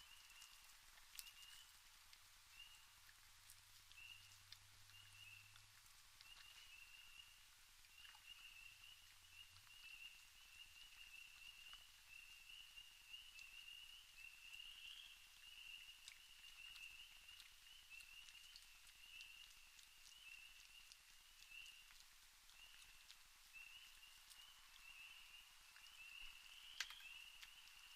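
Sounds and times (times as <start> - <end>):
raccoon eating seed clicks: 0.0 - 27.9.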